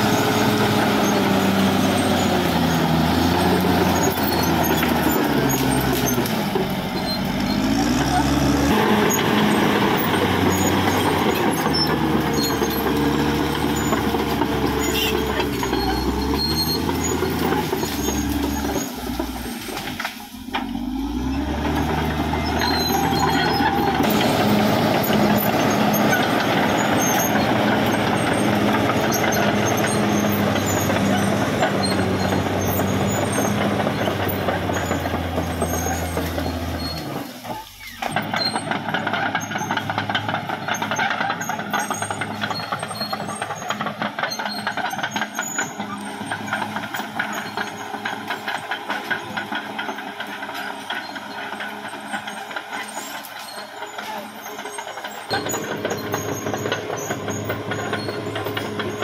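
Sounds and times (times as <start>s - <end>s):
bulldozer diesel engine working: 0.0s - 59.0s.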